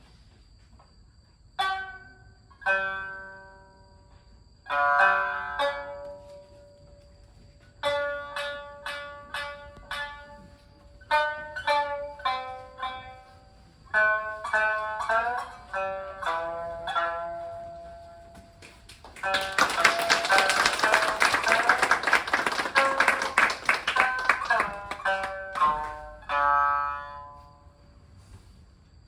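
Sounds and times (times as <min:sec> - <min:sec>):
plucked string instruments: 0:01.6 - 0:03.6, 0:04.7 - 0:06.8, 0:07.6 - 0:18.5, 0:19.1 - 0:27.7.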